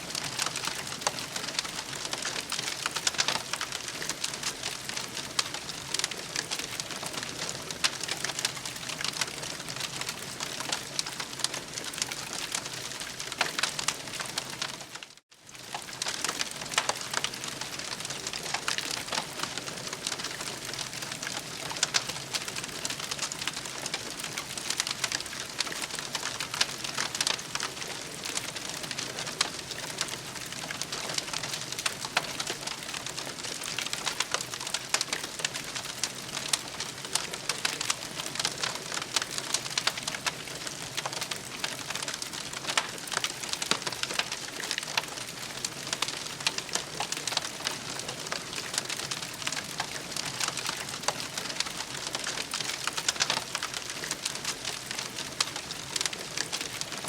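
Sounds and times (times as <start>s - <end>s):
campfire crackling: 0.1s - 57.0s.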